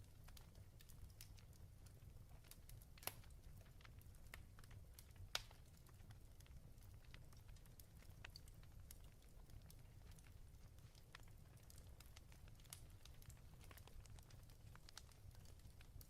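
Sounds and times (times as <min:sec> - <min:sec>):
fireplace crackling: 0:00.0 - 0:16.0.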